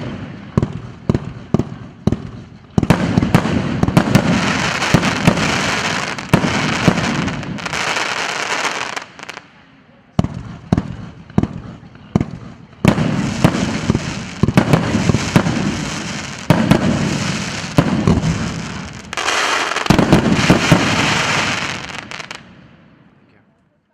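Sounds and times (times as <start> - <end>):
firework aerial bangs: 0.0 - 9.4, 10.2 - 23.1.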